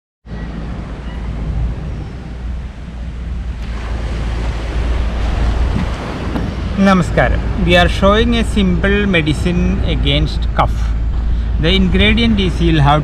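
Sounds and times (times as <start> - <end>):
wind noise on microphone: 0.3 - 13.0.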